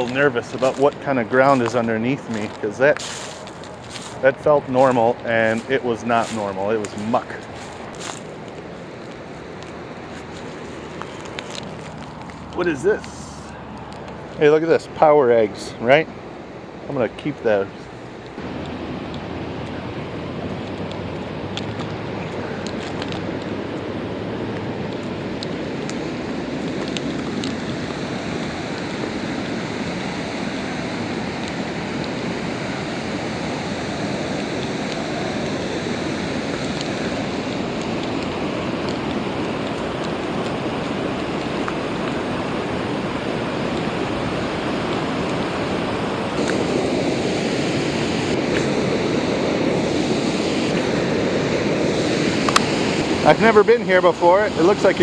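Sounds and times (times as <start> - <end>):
rushing water: 0.0 - 8.5, 18.4 - 55.0.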